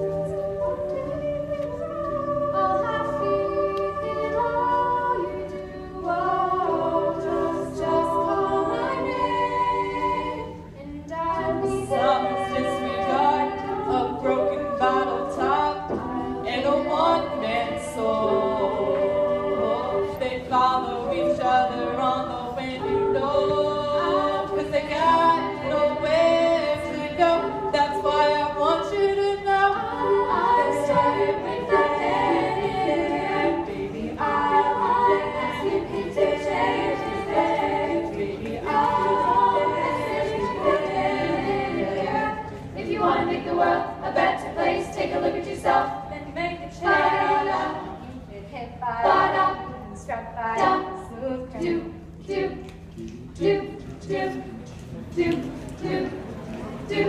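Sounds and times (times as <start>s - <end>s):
a cappella choir singing: 0.0s - 57.0s.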